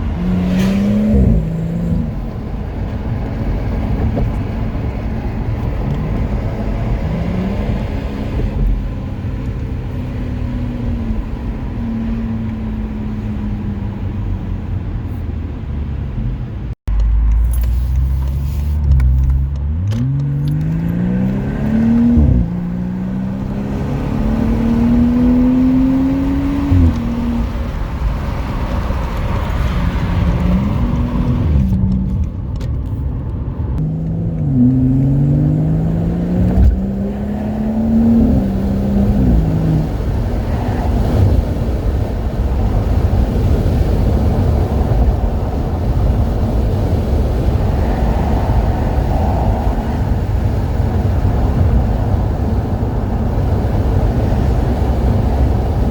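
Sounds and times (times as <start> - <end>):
car engine accelerating through gears: 0.0 - 14.8, 16.9 - 55.9
road noise: 0.0 - 55.9.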